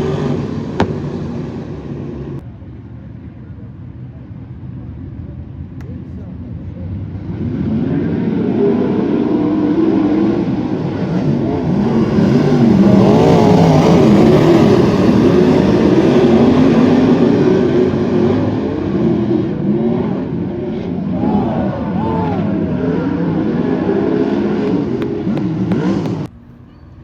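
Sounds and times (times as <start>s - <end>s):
race car engines revving past: 0.0s - 2.4s, 6.3s - 26.6s.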